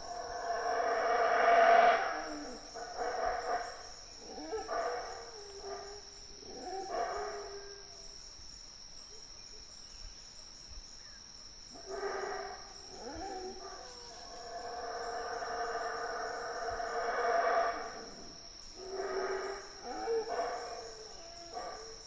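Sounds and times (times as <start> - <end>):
howler monkeys howling: 0.0 - 8.0, 11.8 - 22.0.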